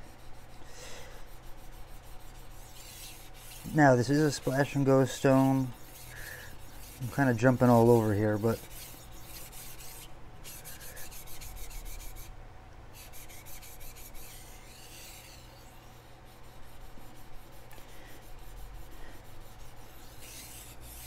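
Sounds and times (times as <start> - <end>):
knife scraping on whetstone: 1.2 - 12.3, 13.0 - 21.0.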